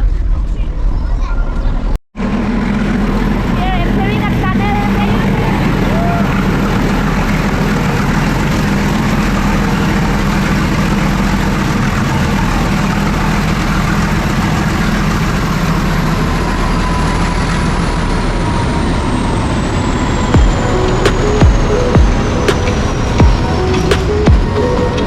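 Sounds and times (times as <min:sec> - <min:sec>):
rumble of moving train: 0:00.0 - 0:25.0
train engine drone: 0:00.0 - 0:25.0.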